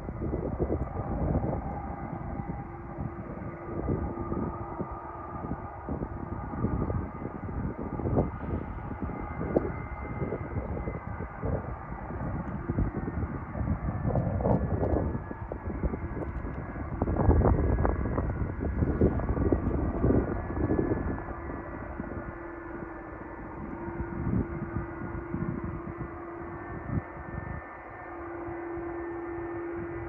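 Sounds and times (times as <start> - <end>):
faint steady tones: 0.0 - 30.0
jet engines rumbling: 0.0 - 30.0
steady hum: 0.0 - 30.0.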